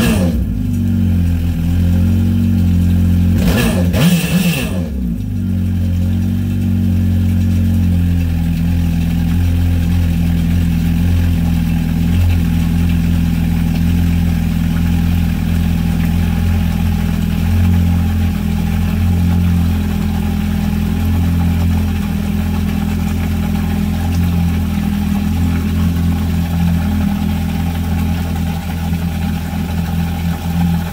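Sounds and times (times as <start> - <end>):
jet ski engine idling: 0.0 - 30.9.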